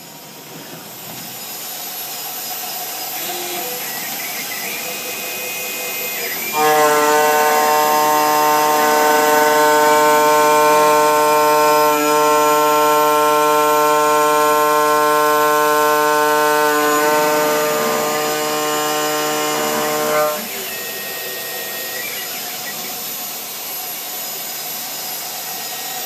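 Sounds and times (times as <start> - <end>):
mill cutting metal whine: 0.0 - 26.0.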